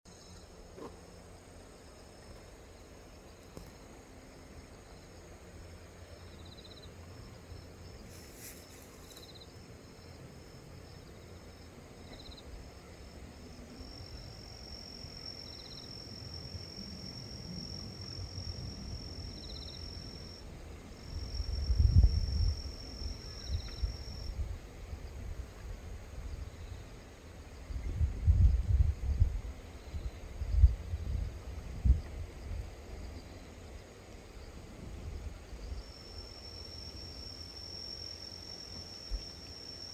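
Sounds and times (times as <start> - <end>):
insect high buzz: 0.1 - 31.2, 31.9 - 39.9
insect chirp: 0.1 - 39.9.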